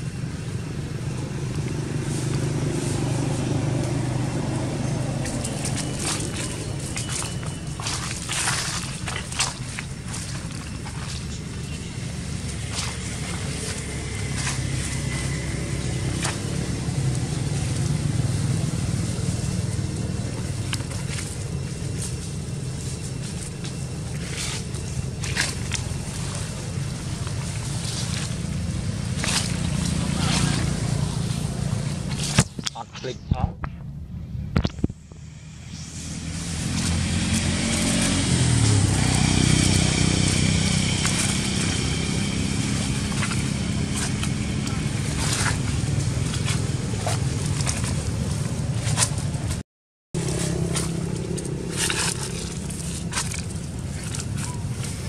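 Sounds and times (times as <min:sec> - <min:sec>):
motorbike engine idling: 0:00.0 - 0:32.7, 0:37.4 - 0:49.6.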